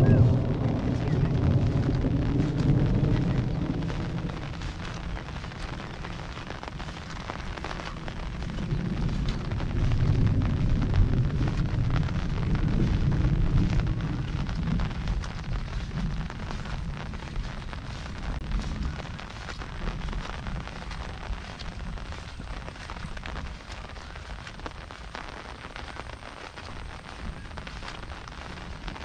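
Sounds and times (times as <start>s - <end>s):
low rumble: 0.0s - 25.7s
heavy rain falling: 0.0s - 29.0s.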